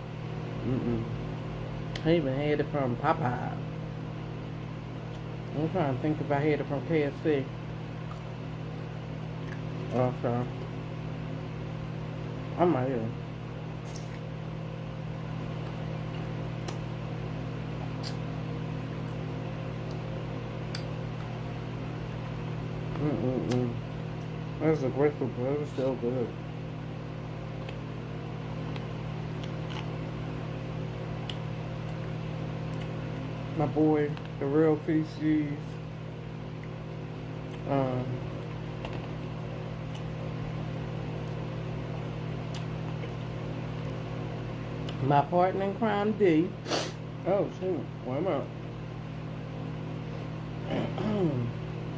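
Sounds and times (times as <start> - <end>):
low electrical hum: 0.0 - 51.9.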